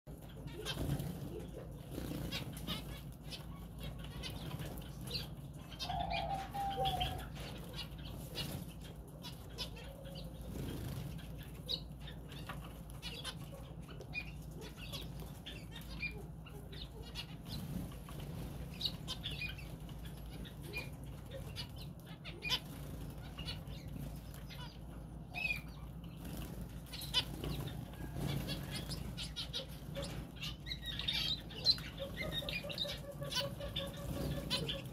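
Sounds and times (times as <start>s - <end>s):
finches chirping: 0.2s - 34.9s.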